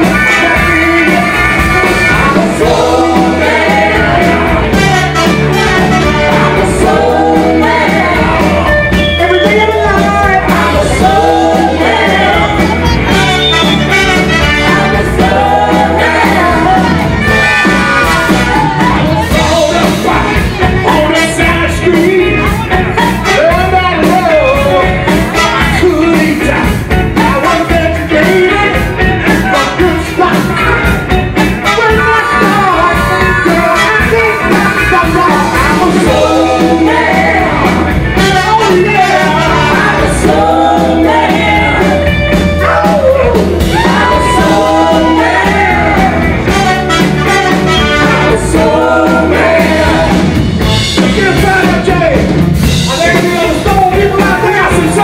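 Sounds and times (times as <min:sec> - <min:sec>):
backing singers: 0:00.0 - 0:55.0
live blues rock band: 0:00.0 - 0:55.0
man singing lead vocals: 0:00.0 - 0:55.0.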